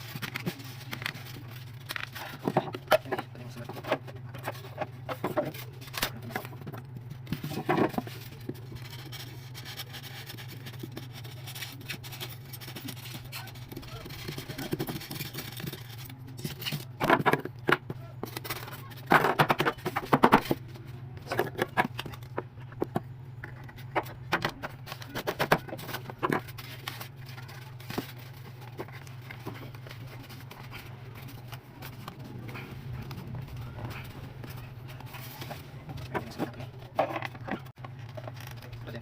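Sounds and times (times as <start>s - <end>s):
clicks knocks and scrapes: 0.0s - 38.8s
steady low hum: 0.0s - 39.0s.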